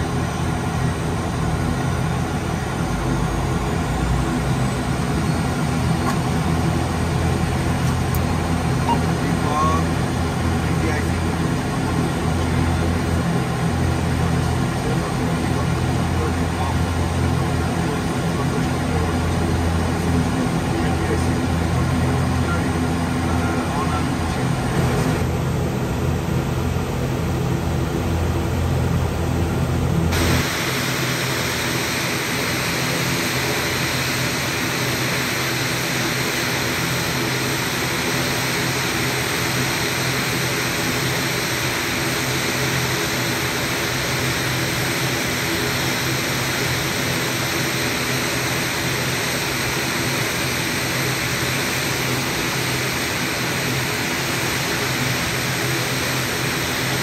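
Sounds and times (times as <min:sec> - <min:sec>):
turboprop engines droning: 0:00.0 - 0:57.0.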